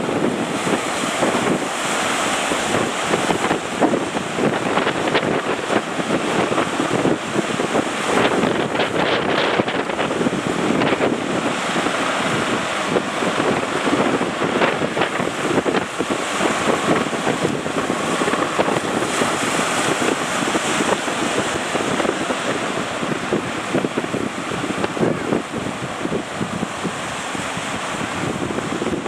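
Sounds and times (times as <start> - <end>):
breaking surf rushing: 0.0 - 29.0
wind buffeting microphone: 0.0 - 29.0.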